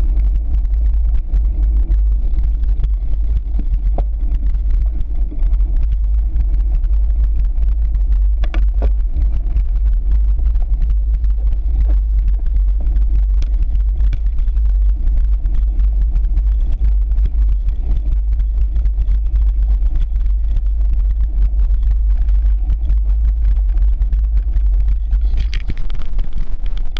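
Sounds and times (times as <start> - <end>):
bike clicks and rattles: 0.0 - 26.9
wind rumble on microphone: 0.0 - 26.9.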